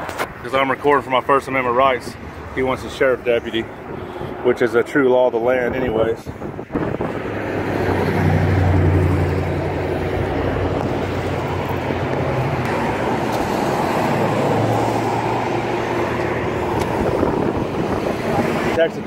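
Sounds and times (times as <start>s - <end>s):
passing traffic rush: 0.0s - 19.0s
vehicle engine hum: 0.0s - 19.0s.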